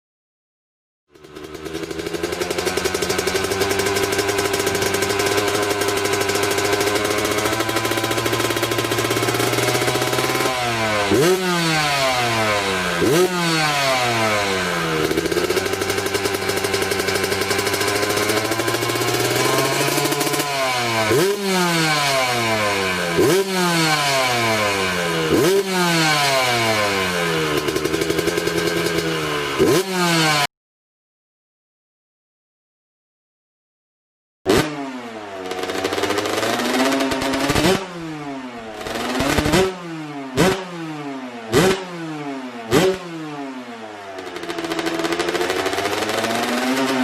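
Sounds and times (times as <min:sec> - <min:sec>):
motorcycle engine idling and revving: 0:01.1 - 0:30.5, 0:34.5 - 0:47.0.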